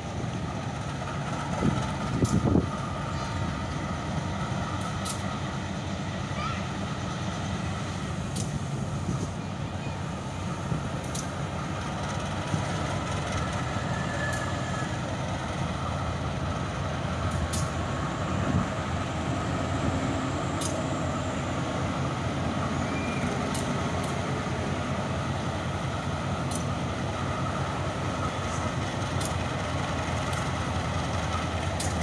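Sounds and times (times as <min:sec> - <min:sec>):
diesel locomotive engine: 0:00.0 - 0:32.0.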